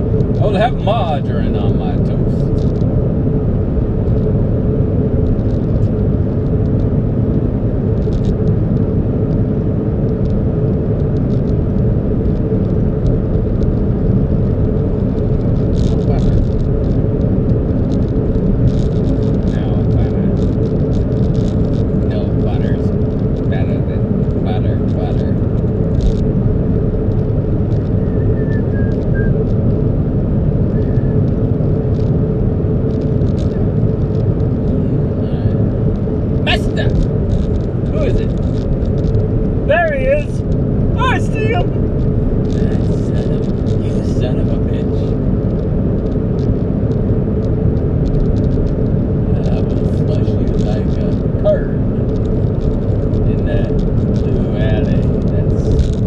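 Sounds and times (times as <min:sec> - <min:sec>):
car engine rumbling: 0:00.0 - 0:56.0
faint steady hum: 0:00.0 - 0:56.0.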